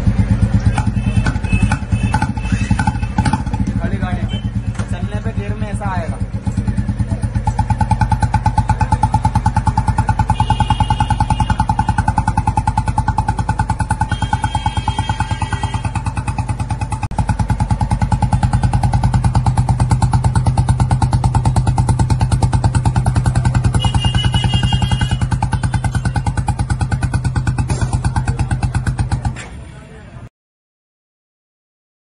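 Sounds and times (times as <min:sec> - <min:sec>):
motorcycle engine idling: 0:00.0 - 0:29.9.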